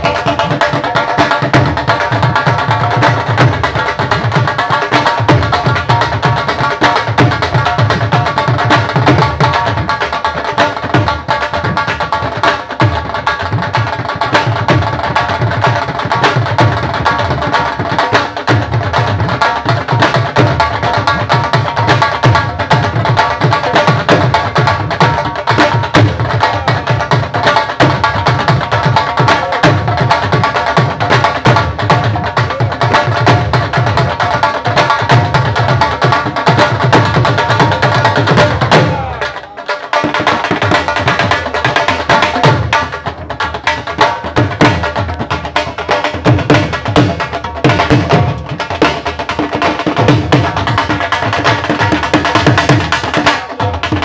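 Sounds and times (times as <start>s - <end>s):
drums beaten with sticks: 0.0s - 54.0s
metal-shelled drums: 0.0s - 54.0s.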